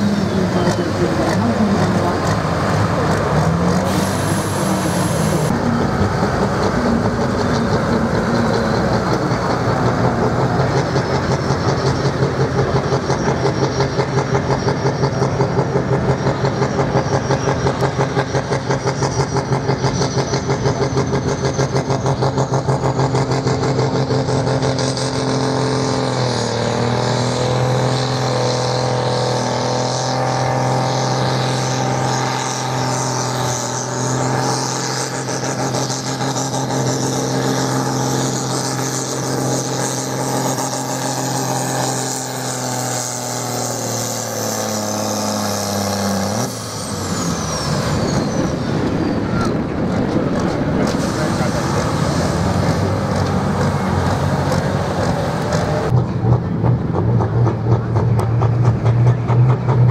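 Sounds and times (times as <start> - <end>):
tractor engine running loud: 0.0 - 59.9.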